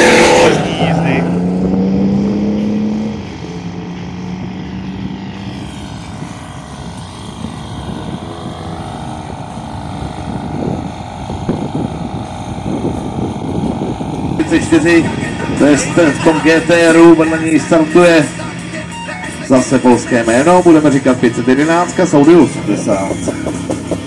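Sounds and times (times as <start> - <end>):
low rumble of distant car engines: 0.0 - 24.0
race car engine: 0.0 - 24.0.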